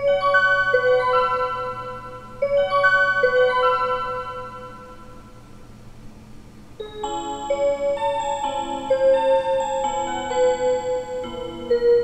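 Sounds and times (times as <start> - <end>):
wall clock chime bell notes: 0.0 - 5.4, 6.8 - 12.0.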